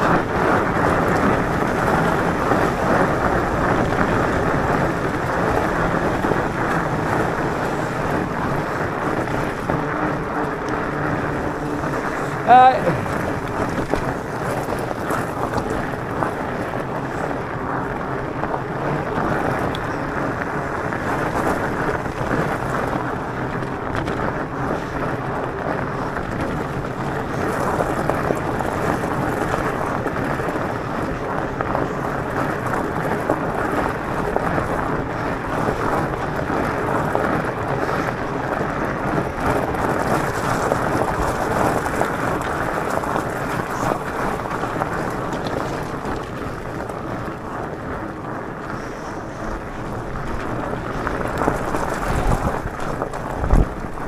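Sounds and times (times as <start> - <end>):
tyres rolling on gravel: 0.0 - 54.0
wind buffeting microphone: 0.0 - 54.0.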